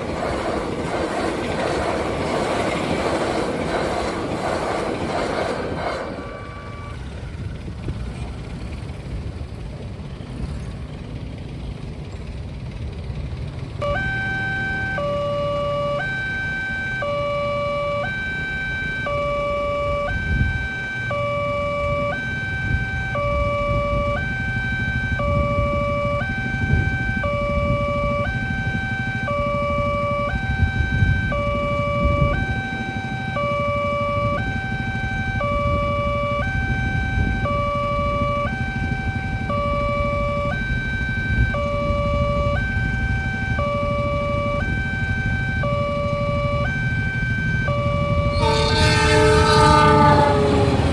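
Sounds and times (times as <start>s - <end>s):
level crossing alarm siren: 0.0s - 7.7s, 13.8s - 50.9s
road traffic rumbling: 0.0s - 50.9s.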